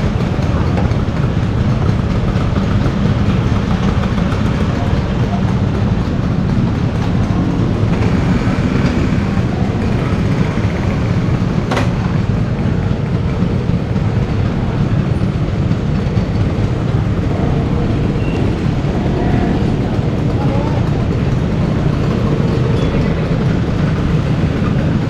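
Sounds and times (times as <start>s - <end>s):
scooter engine rumble: 0.0s - 25.0s.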